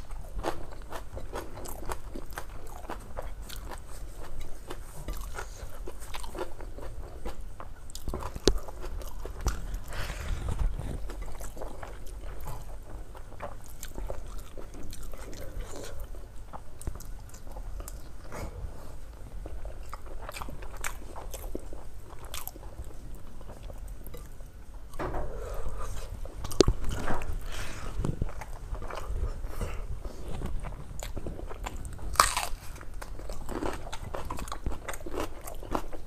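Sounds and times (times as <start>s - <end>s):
man chewing food: 0.0s - 36.0s.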